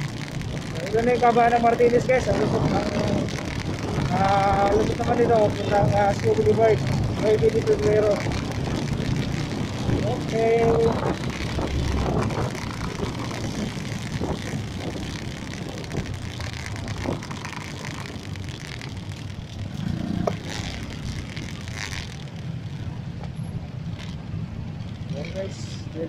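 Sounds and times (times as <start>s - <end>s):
wind noise: 0.0s - 25.5s
road traffic rumble: 0.0s - 26.0s.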